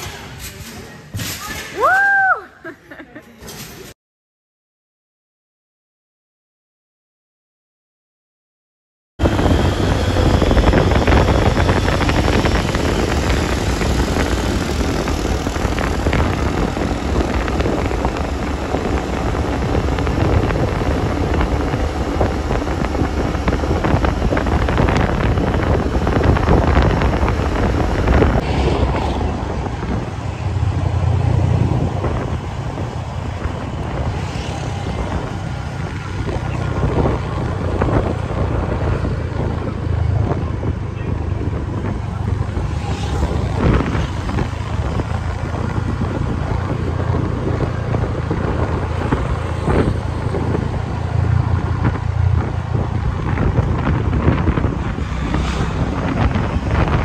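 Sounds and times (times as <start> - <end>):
motorcycle engine rumble: 9.2 - 57.0
wind buffeting microphone: 9.2 - 57.0.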